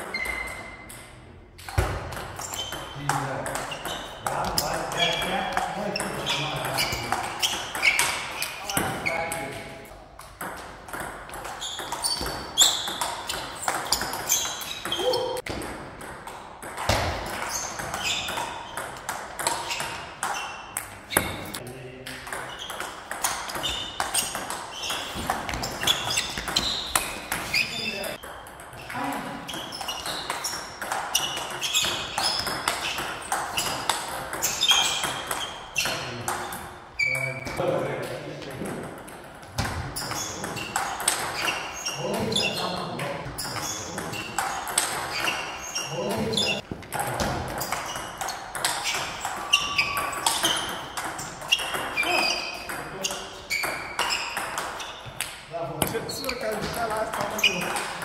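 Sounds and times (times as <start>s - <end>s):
ball bouncing on table: 0.2s - 36.7s, 46.0s - 58.0s
table tennis ball hits: 0.2s - 36.8s, 37.4s - 58.0s.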